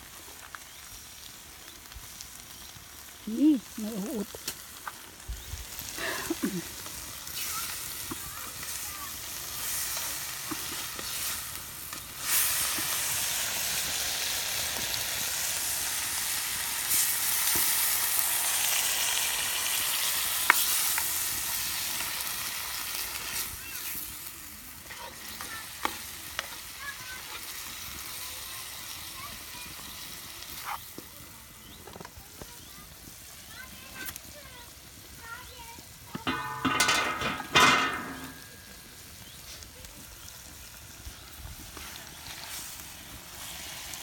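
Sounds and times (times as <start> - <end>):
beans sizzling in a frying pan: 0.0 - 44.0.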